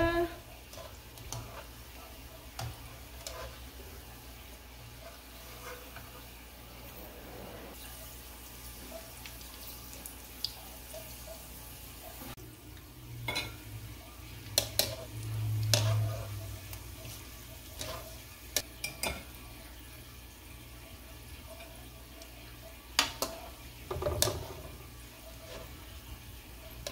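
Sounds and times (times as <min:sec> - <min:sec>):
food sizzling in hot oil: 0:00.0 - 0:07.0, 0:07.7 - 0:26.9.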